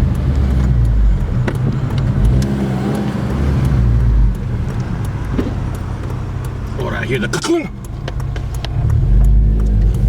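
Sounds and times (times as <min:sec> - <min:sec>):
car engine and exhaust droning: 0:00.0 - 0:10.0.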